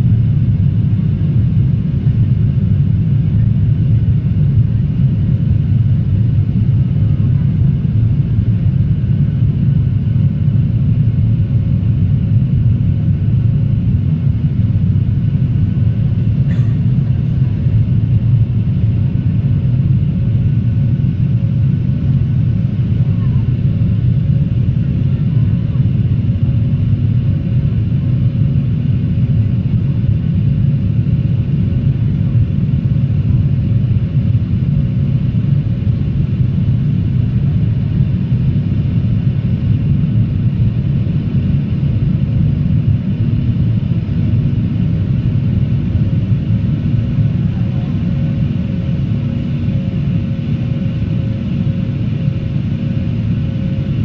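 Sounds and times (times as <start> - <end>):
airplane cabin roar: 0.0 - 54.0.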